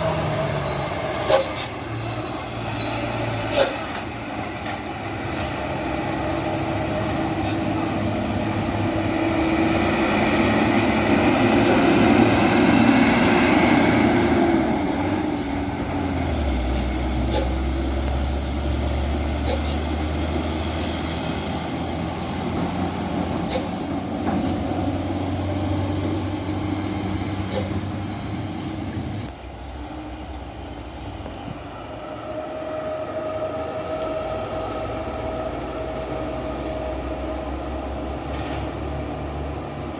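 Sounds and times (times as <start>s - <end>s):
dump truck diesel engines: 0.0s - 39.9s.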